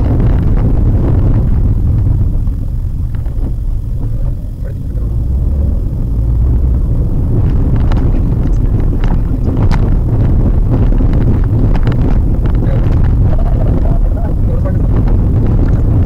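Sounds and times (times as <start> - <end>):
car knocks and rattles over bumps: 0.0 - 16.0
tyre and road noise rumble: 0.0 - 16.0.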